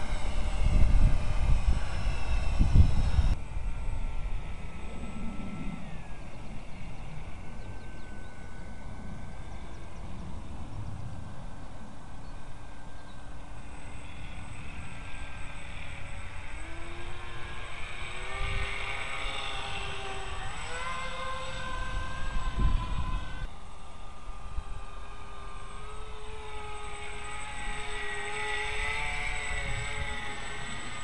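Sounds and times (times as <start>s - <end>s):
wind buffeting microphone: 0.0s - 23.5s, 27.6s - 31.0s
model plane electric motors whining: 0.0s - 31.0s.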